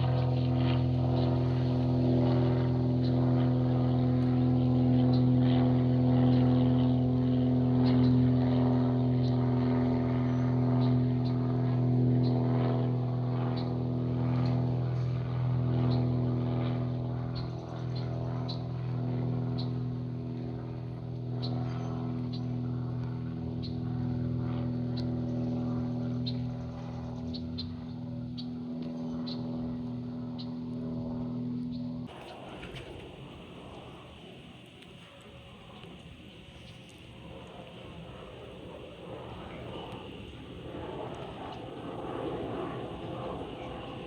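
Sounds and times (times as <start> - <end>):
steady engine drone: 0.0 - 44.0.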